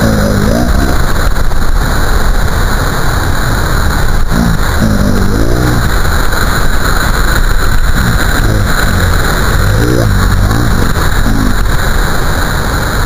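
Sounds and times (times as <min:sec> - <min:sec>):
crashing waves: 0:00.0 - 0:13.0.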